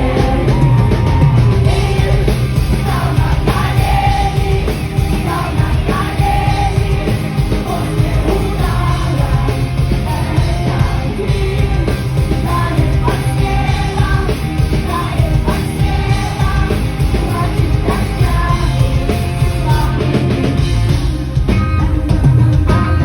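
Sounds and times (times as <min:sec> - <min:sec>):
rock music with singing: 0:00.0 - 0:23.0.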